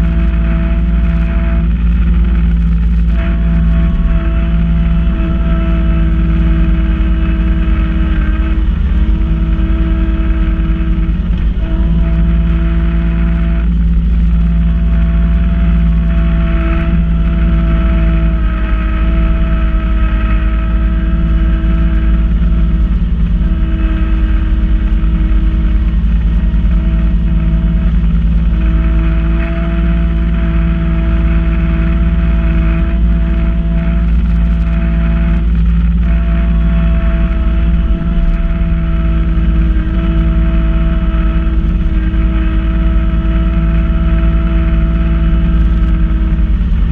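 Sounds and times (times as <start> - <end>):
snow blower whine: 0.0 - 46.9
tractor diesel engine running: 0.0 - 46.9.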